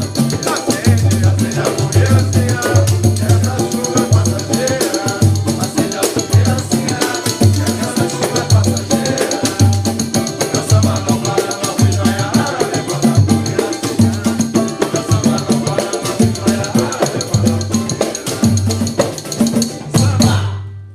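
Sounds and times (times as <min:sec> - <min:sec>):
sharp hand percussion strokes: 0:00.0 - 0:20.6
samba band playing: 0:00.0 - 0:20.7.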